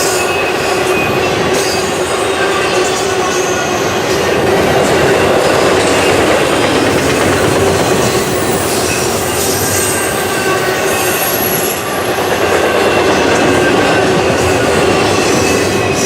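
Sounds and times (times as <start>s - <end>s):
train wheels rumbling on rail: 0.0s - 16.0s
wheel squeals: 0.6s - 16.0s.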